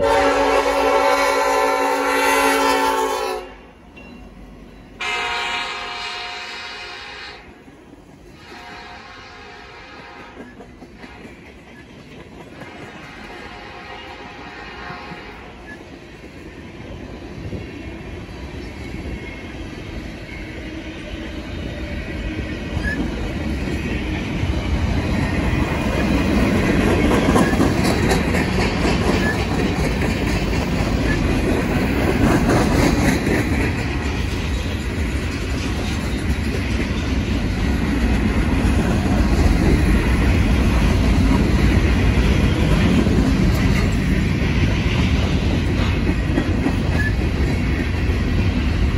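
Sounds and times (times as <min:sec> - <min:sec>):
freight train wheels rumbling on rails: 0:00.0 - 0:48.9.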